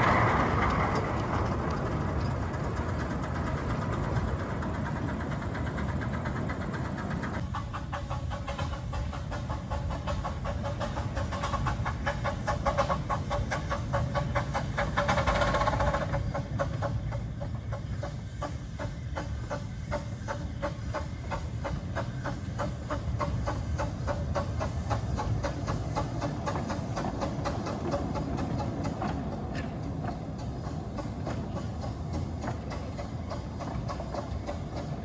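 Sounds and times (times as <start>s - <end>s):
steam hissing: 0.0s - 35.0s
steam locomotive exhaust beating: 0.0s - 35.0s.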